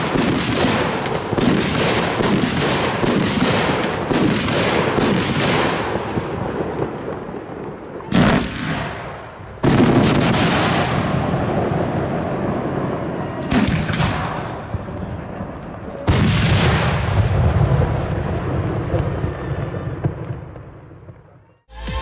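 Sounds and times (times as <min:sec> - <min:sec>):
firework bangs: 0:00.0 - 0:21.4
firework crackling: 0:00.0 - 0:22.0.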